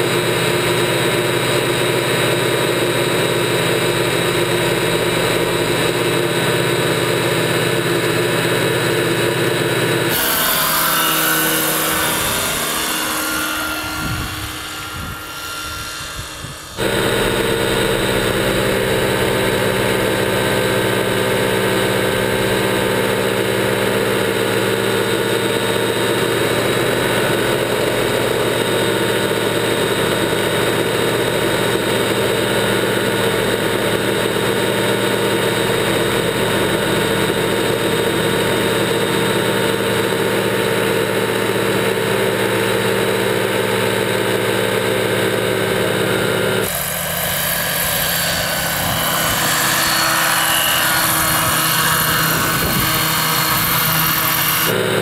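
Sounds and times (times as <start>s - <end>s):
model helicopter rotor drone: 0.0s - 55.0s.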